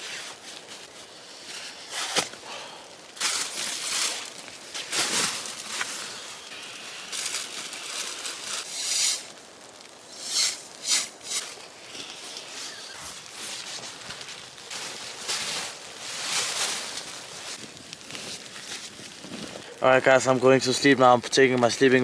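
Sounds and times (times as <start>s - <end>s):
foil blanket crinkling: 0.0s - 22.0s.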